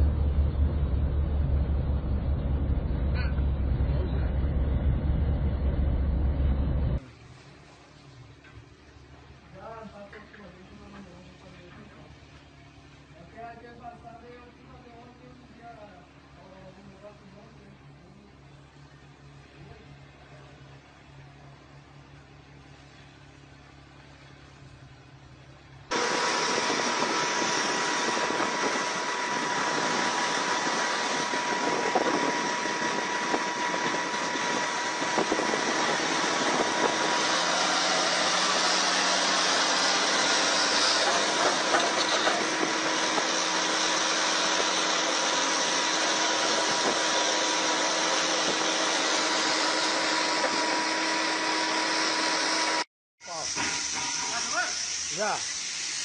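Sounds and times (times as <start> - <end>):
diesel truck engine running hard: 0.0 - 9.8, 10.5 - 52.9.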